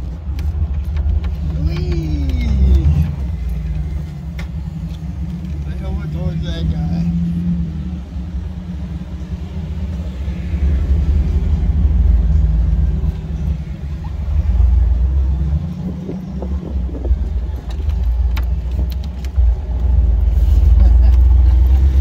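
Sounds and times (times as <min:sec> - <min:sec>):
engine low rumble inside cab: 0:00.0 - 0:22.0.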